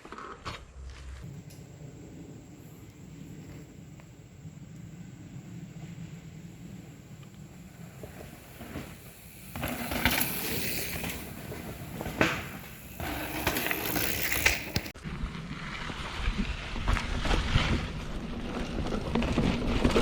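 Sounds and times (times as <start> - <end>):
bike tyres on dirt trail: 0.0 - 20.0.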